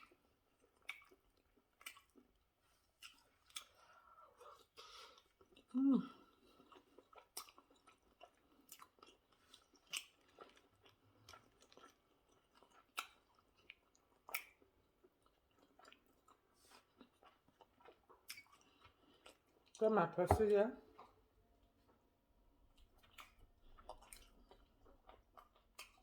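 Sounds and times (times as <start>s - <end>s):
person chewing food: 0.0s - 22.0s, 22.7s - 26.0s.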